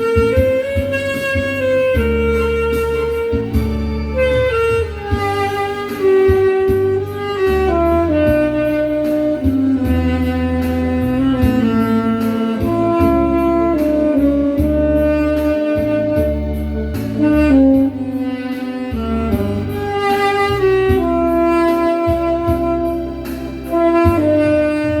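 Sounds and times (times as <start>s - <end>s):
backing track with bass and beat: 0.0s - 25.0s
tenor saxophone melody: 0.0s - 25.0s.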